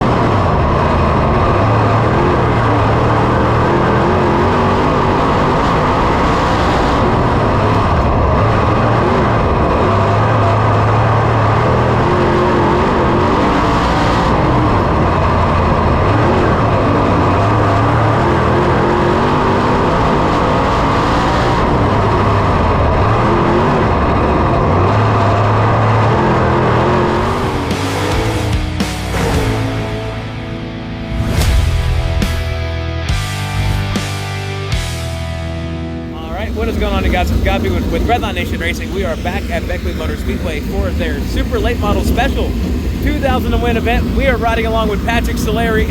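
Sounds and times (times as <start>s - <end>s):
race car engine running loud: 0.0s - 45.9s.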